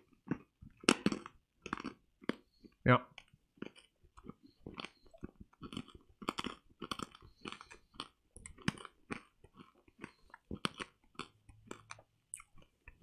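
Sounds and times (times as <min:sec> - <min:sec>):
hard candy crunching in mouth: 0:00.0 - 0:13.0.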